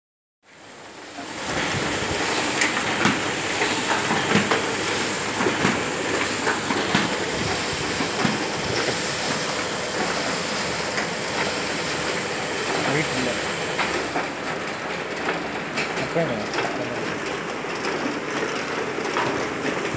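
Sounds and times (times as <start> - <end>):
printing press whirring and clattering: 0.5 - 19.9.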